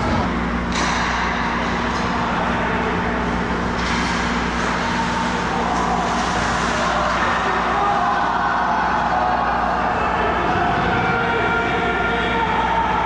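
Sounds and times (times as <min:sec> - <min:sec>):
ice rink background hum and hiss: 0:00.0 - 0:13.0.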